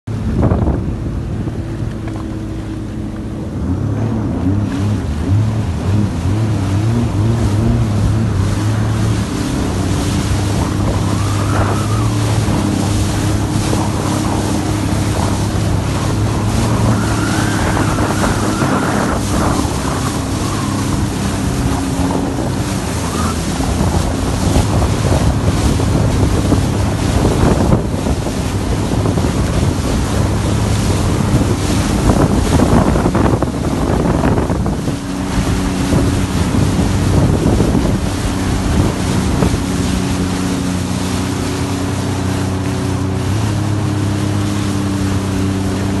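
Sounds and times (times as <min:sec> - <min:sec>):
jet ski engine running: 0:00.0 - 0:46.0
water rushing past hull: 0:00.0 - 0:46.0
wind buffeting microphone: 0:00.1 - 0:46.0.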